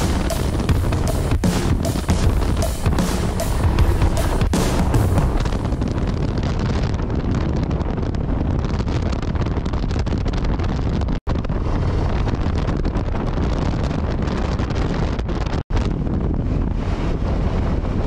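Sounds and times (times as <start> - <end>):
motorcycle engine rumble: 0.0 - 18.0
wind buffeting microphone: 0.0 - 18.0.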